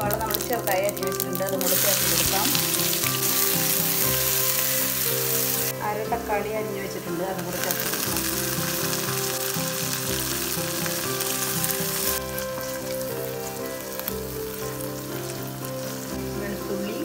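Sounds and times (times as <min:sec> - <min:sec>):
onion and tomato sizzling in oil: 0:00.0 - 0:17.0
soft background music: 0:00.0 - 0:17.0.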